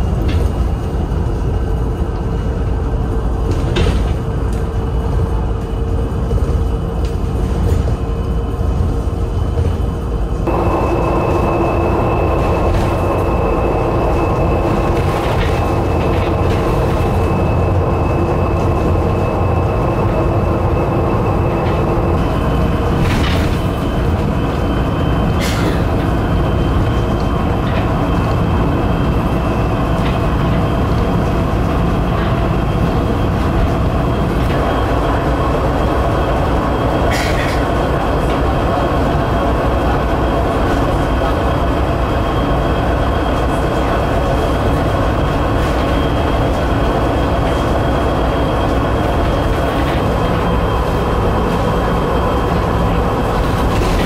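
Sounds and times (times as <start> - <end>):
constant high whine: 0.0 - 54.0.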